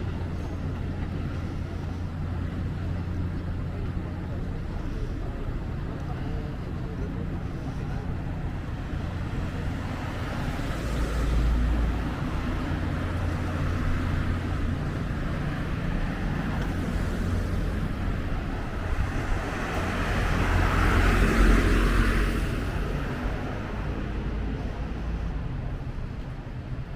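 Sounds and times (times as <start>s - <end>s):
road traffic hum: 0.0s - 26.9s
vehicles passing by: 0.0s - 26.9s.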